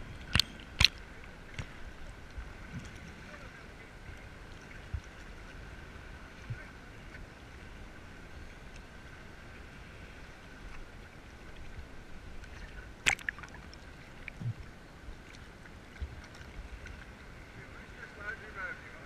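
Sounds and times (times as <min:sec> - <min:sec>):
sea water sloshing and lapping: 0:00.0 - 0:19.0.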